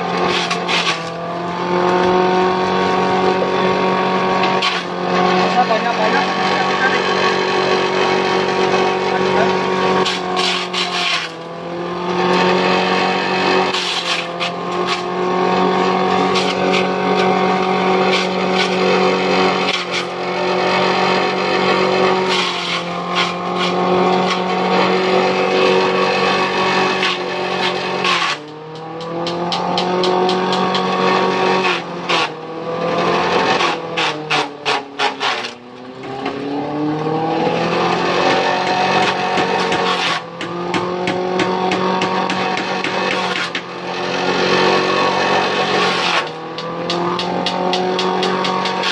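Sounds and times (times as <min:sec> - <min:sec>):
stalks crackling as cut: 0:00.0 - 0:20.2, 0:21.7 - 0:32.4, 0:33.3 - 0:36.4, 0:37.8 - 0:48.9
electric motor hum: 0:00.0 - 0:48.9.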